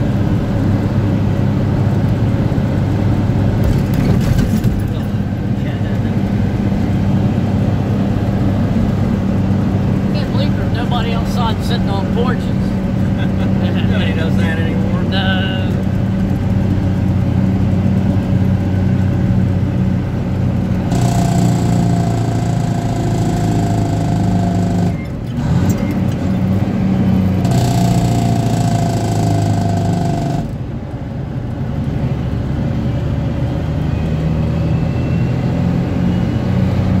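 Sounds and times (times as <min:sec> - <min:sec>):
truck engine running: 0:00.0 - 0:37.0.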